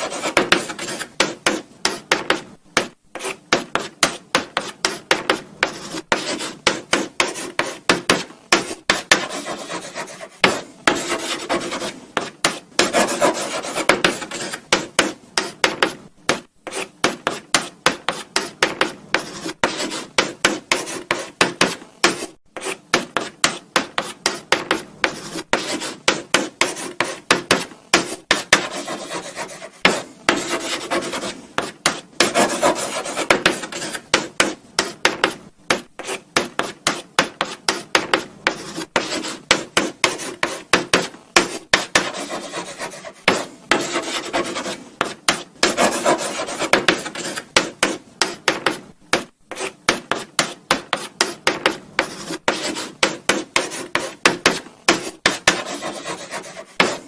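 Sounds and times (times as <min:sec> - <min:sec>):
chalk scratching on a blackboard: 0:00.0 - 0:57.0.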